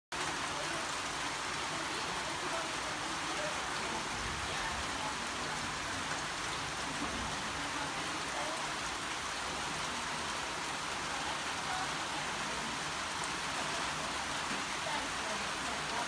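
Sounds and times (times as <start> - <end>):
rain falling on a puddle: 0.1 - 16.0.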